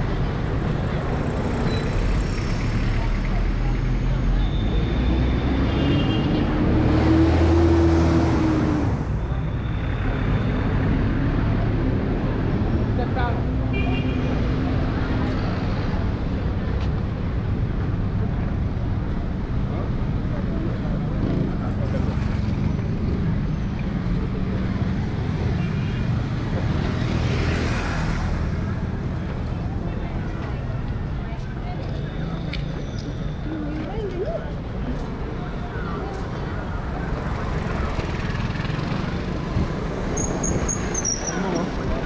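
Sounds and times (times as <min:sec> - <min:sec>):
street traffic noise: 0:00.0 - 0:42.0.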